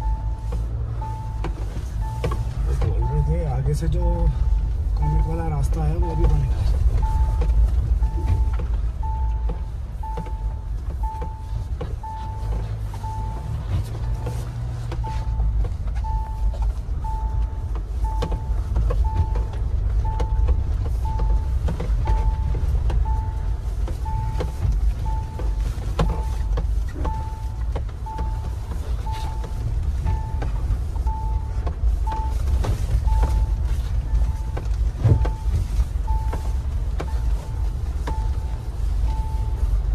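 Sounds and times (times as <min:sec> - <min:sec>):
dashboard warning chime beeping: 0:00.0 - 0:39.9
engine and road rumble: 0:00.0 - 0:39.9.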